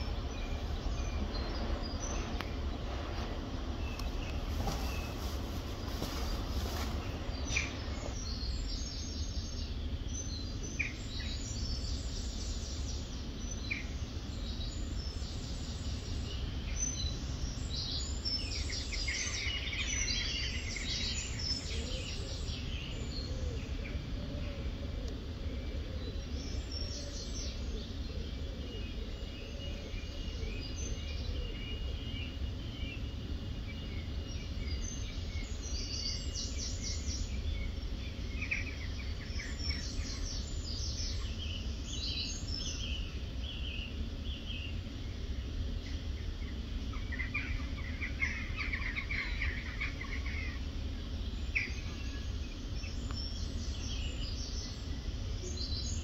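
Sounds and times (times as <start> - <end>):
low outdoor rumble: 0.0 - 56.0
small birds chirping: 0.0 - 56.0.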